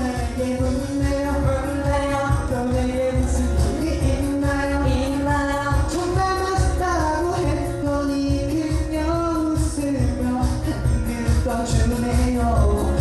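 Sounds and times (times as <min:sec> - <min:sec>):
pop song with singing: 0:00.0 - 0:13.0.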